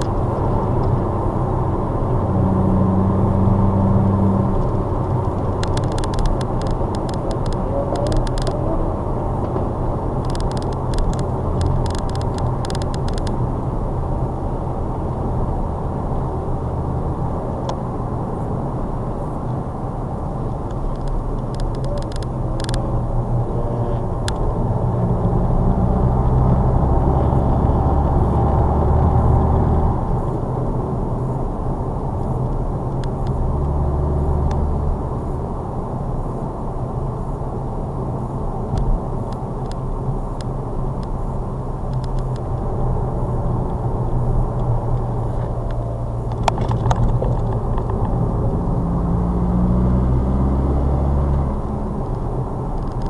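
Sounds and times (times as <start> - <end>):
car engine drone in cabin: 0.0 - 53.0.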